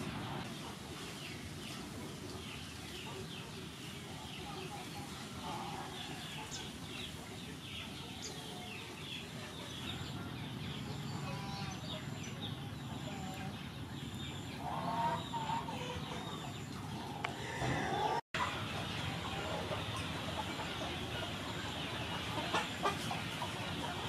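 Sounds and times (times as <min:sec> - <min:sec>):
chicken clucking: 0:00.0 - 0:24.0
small birds chirping: 0:00.0 - 0:24.0.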